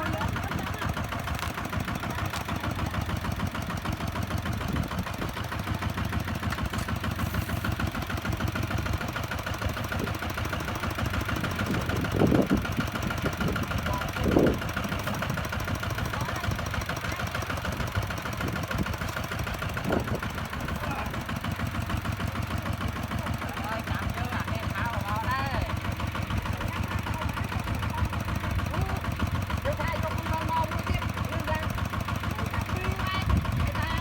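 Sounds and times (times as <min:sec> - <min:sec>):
diesel engine chugging: 0:00.0 - 0:34.0.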